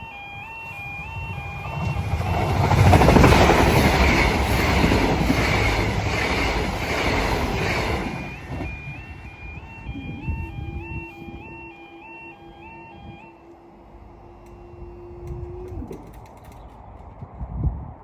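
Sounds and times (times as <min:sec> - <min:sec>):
two-tone crossing alarm: 0:00.0 - 0:16.2
train passing: 0:00.0 - 0:18.0.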